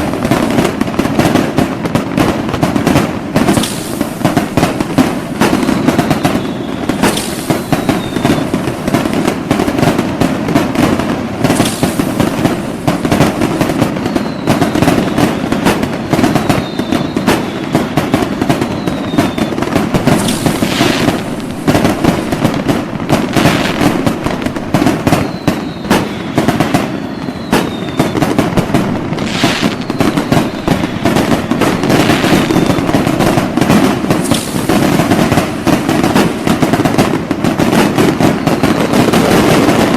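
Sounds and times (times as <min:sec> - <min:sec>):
fireworks crackling and banging: 0:00.0 - 0:39.9
whistling rockets: 0:00.0 - 0:39.9.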